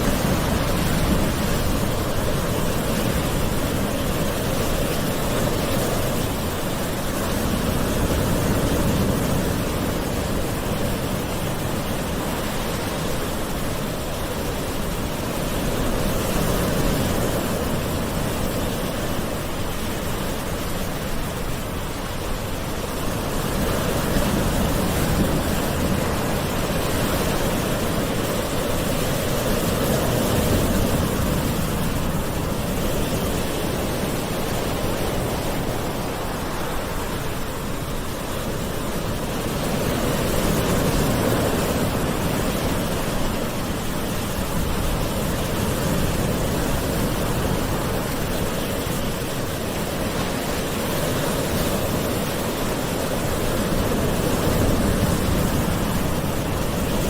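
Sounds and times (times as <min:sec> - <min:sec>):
ocean waves washing in: 0:00.0 - 0:57.0.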